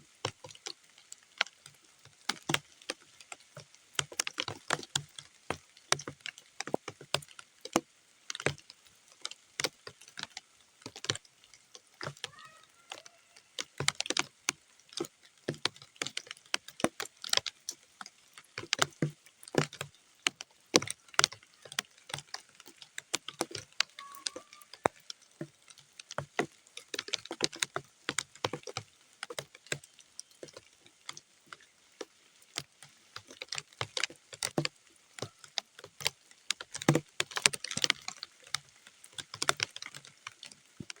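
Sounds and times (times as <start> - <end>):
raindrops dripping on mud: 0.0 - 41.0.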